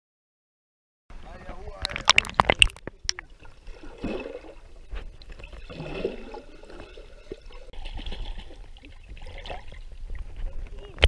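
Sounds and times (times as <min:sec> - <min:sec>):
muffled underwater river gurgling: 0:01.2 - 0:11.0.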